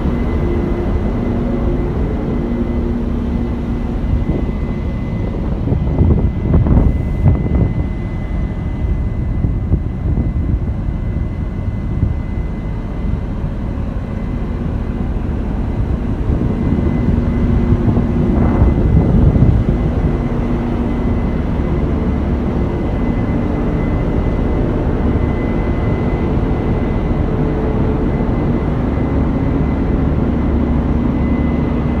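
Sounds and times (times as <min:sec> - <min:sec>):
combine harvester drone: 0:00.0 - 0:32.0
high machine whine: 0:00.0 - 0:32.0.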